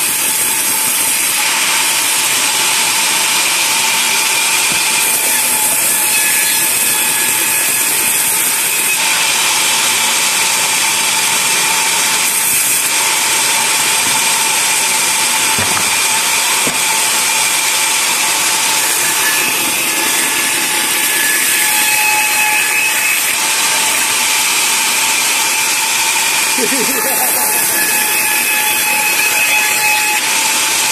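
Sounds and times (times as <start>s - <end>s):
band saw cutting log: 0.0s - 30.9s
high whine of saw blade: 0.0s - 30.9s.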